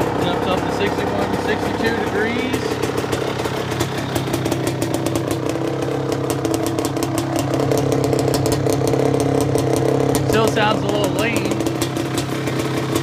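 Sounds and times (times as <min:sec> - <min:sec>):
two-stroke quad engine idling: 0:00.0 - 0:13.0.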